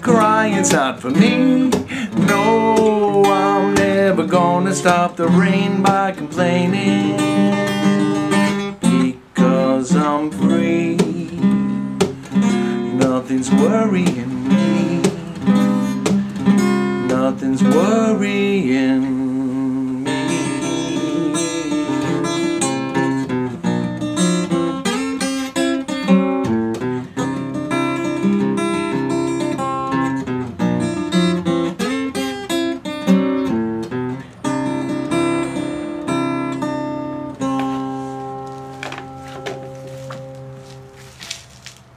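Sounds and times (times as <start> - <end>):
solo acoustic guitar: 0.0 - 41.3.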